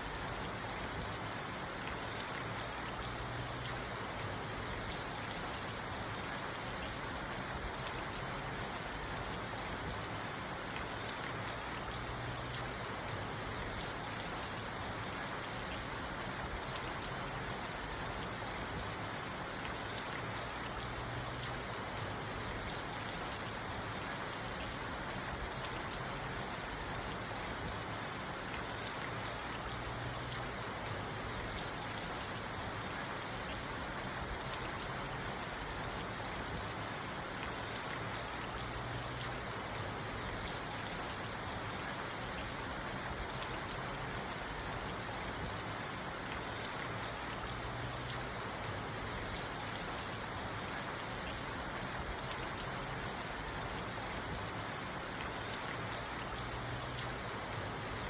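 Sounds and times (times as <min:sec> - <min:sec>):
rain falling on a car: 0:00.0 - 0:58.0.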